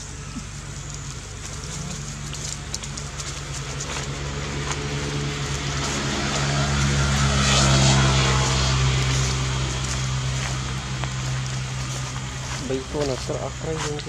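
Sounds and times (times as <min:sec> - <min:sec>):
dry leaves rustling: 0:00.0 - 0:14.0
low engine drone: 0:00.0 - 0:14.0.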